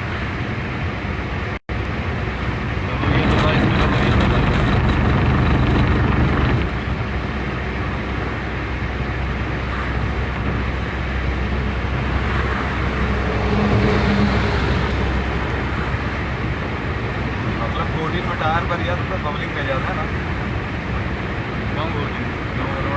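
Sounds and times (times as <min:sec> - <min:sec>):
car engine and tyre road noise: 0:00.0 - 0:22.9.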